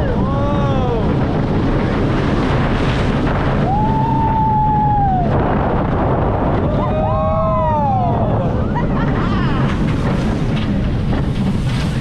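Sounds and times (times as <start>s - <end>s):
roller coaster train rumble: 0.0s - 12.0s
wind rushing over microphone: 0.0s - 12.0s.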